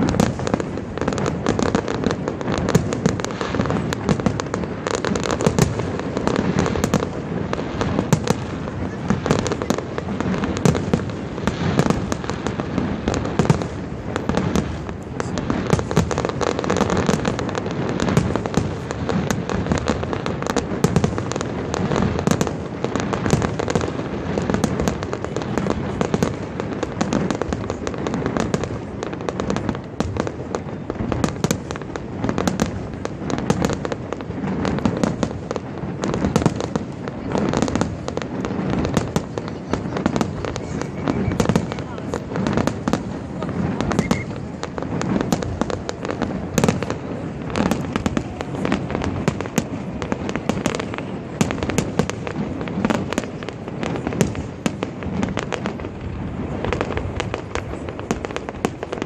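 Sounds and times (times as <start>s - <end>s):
fireworks bursts and crackles: 0.0s - 59.0s.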